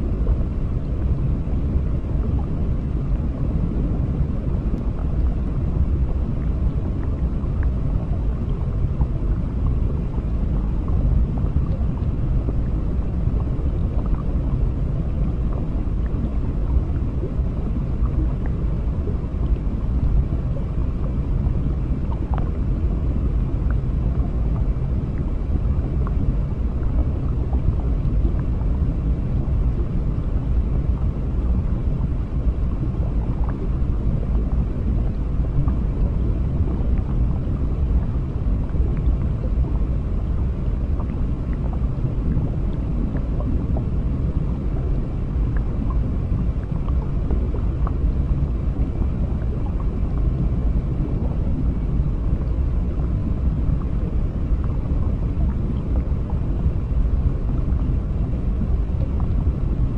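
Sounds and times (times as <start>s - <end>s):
deep rumble of moving water: 0.0s - 59.9s.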